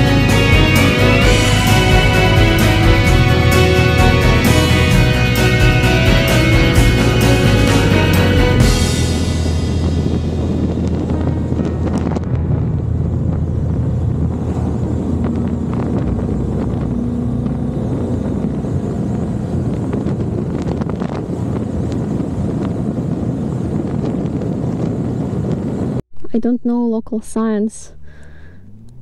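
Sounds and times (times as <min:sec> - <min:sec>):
motorcycle engine drone: 0:00.0 - 0:26.0, 0:27.8 - 0:29.0
wind noise on microphone: 0:00.0 - 0:26.6.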